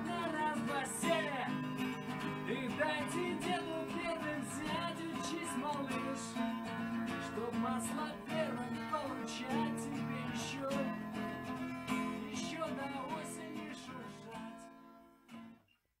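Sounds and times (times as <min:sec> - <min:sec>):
acoustic guitar strumming: 0:00.0 - 0:15.7.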